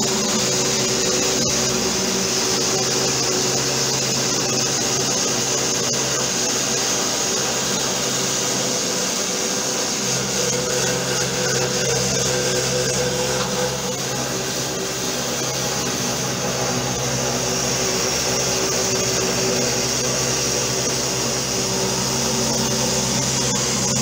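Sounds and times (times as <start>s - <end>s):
end mill cutting plywood: 0.0s - 24.0s
low machine hum: 0.0s - 24.0s
spindle motor high whine: 0.0s - 24.0s.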